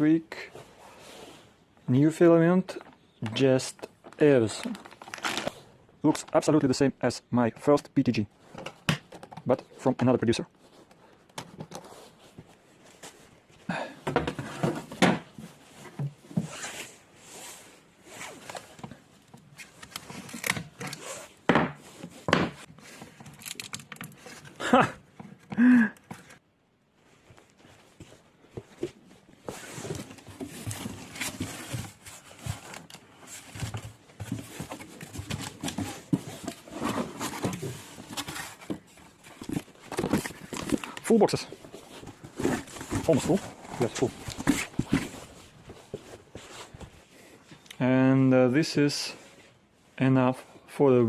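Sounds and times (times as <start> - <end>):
rustling handling noises: 2.6 - 6.8, 8.1 - 47.8.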